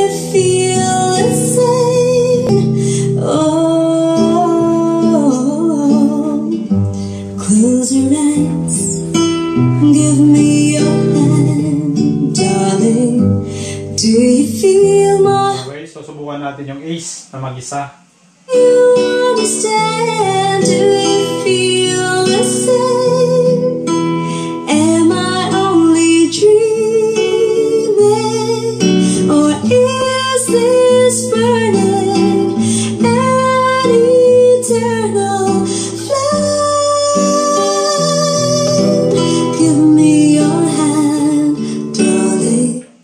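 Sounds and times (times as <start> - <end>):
song with acoustic guitar and singing: 0.0 - 15.8, 18.1 - 43.0.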